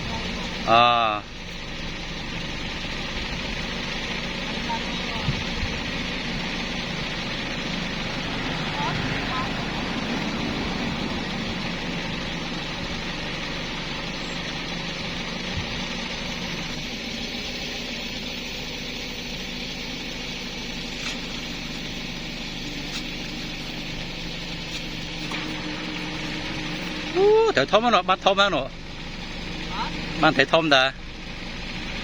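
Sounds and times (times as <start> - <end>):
small engine idling: 0.0 - 32.0.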